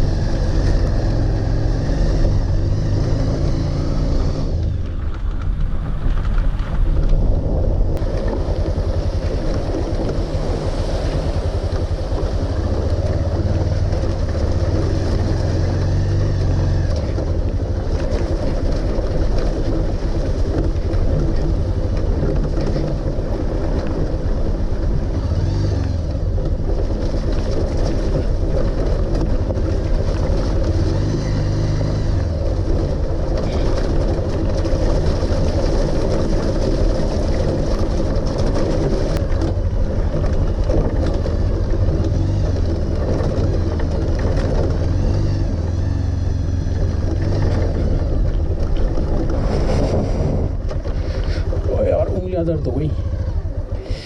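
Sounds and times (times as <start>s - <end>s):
motorcycle engine droning: 0.0s - 54.0s
road and wind noise: 0.0s - 54.0s.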